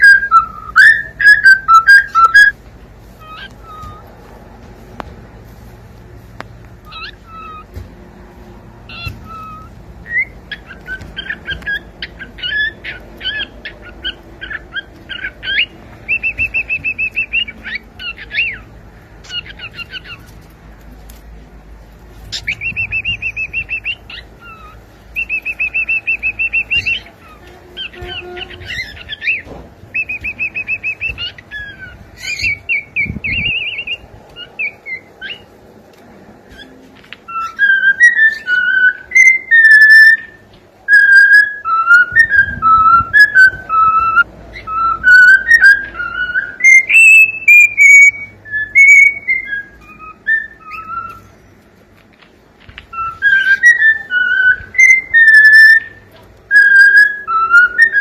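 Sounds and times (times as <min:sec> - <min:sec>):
cockatiel chirping and whistling: 0:00.0 - 0:02.6, 0:03.2 - 0:04.1, 0:06.9 - 0:07.7, 0:08.9 - 0:20.4, 0:22.3 - 0:35.5, 0:36.5 - 0:51.3, 0:52.8 - 0:58.0.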